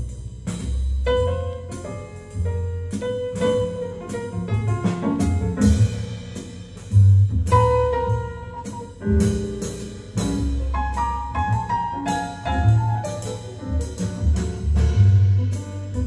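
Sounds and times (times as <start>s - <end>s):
jazz through loudspeakers: 0.0s - 16.0s.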